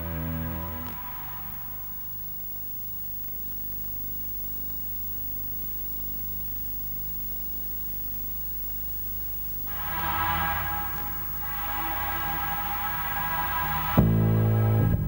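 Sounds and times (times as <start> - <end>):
low electrical hum with hiss: 0.0 - 15.0.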